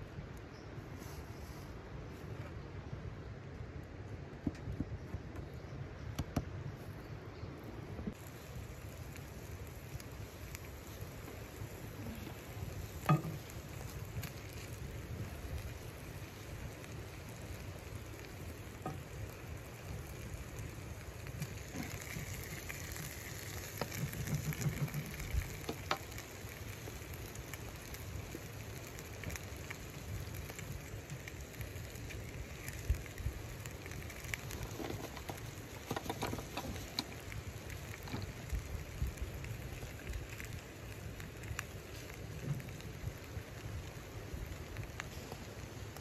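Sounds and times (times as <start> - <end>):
small pops and crackles: 3.5 - 6.6, 8.0 - 46.0
chicken sizzling in a frying pan: 8.1 - 46.0.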